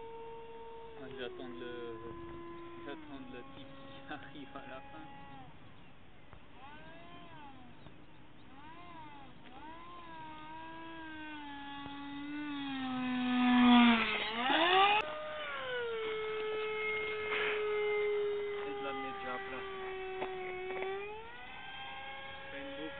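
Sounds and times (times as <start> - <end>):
model plane motor whining: 0.0 - 22.9.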